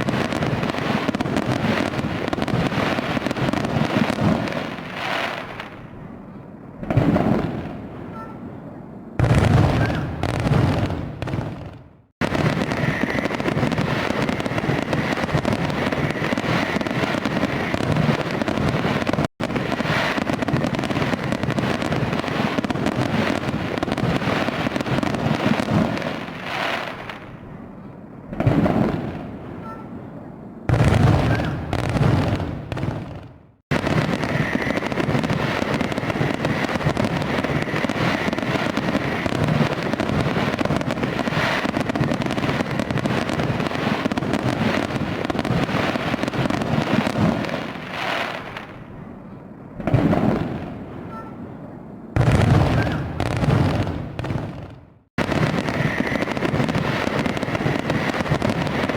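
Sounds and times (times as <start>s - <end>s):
fireworks crackling and popping: 0.0s - 6.0s, 6.8s - 7.9s, 9.2s - 27.5s, 28.3s - 29.6s, 30.7s - 51.2s, 52.2s - 58.9s
fireworks booms: 0.0s - 58.9s.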